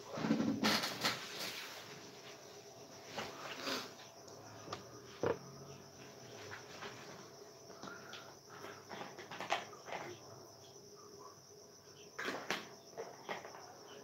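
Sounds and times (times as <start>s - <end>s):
high insect chirring: 0.2s - 14.0s.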